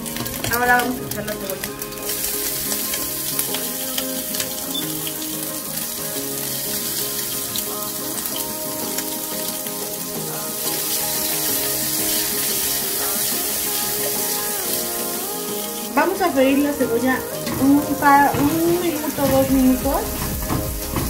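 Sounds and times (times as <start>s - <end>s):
background music: 0.0s - 21.0s
bacon sizzling in frying pan: 0.0s - 21.0s.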